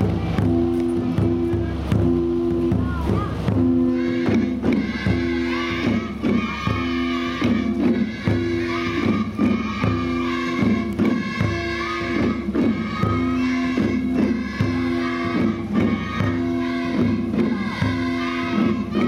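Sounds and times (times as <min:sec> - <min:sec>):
hand drums struck in unison: 0:00.0 - 0:19.0
low musical accompaniment: 0:00.0 - 0:19.0
folk song singing: 0:03.6 - 0:19.0.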